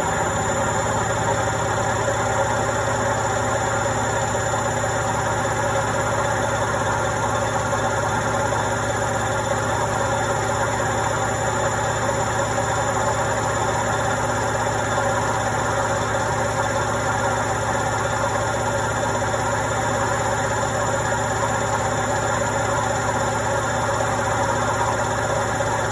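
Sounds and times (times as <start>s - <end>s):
washing machine running: 0.0s - 25.9s.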